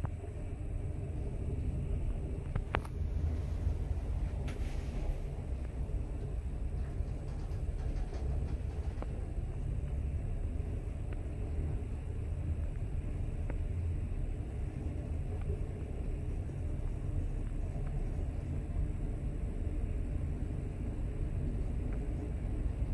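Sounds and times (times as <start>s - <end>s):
lift car rumble: 0.0s - 22.9s.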